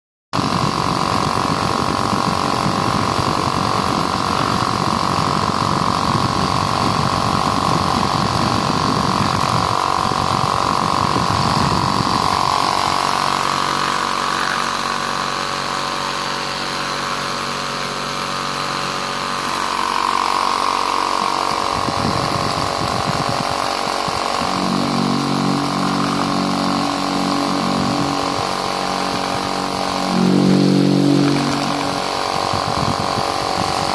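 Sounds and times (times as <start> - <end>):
electric fan motor hum: 0.4 - 33.9
loud low buzz: 0.4 - 33.9.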